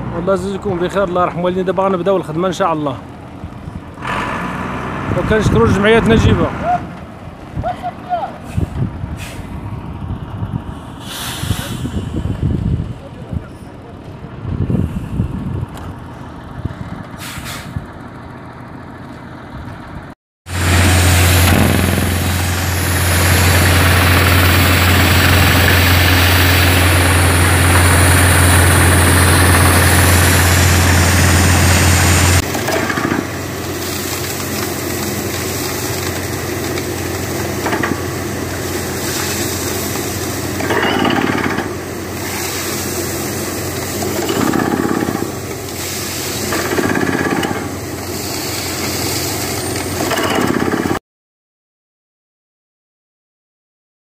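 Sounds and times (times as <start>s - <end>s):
drilling rig engine and drilling: 0.0s - 51.0s.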